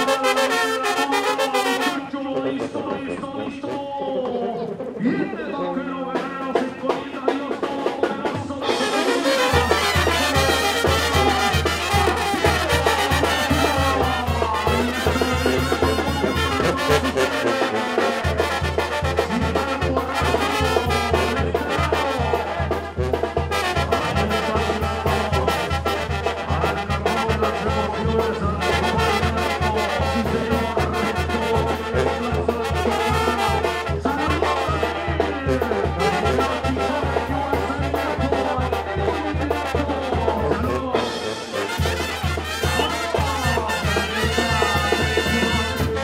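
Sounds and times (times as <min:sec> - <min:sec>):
trumpets and trombones: 0:00.0 - 0:03.8, 0:05.0 - 0:46.0
fast low beat: 0:02.3 - 0:46.0.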